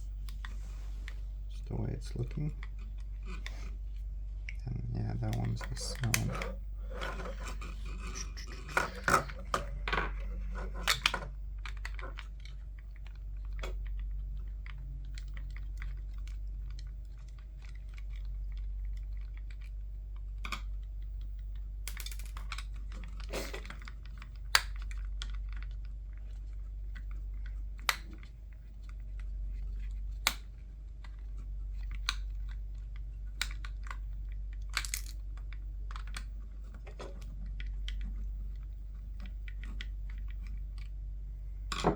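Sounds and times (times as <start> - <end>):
steady low hum: 0.0 - 41.9
plastic parts clicking and crackling: 0.1 - 4.1, 5.0 - 41.9.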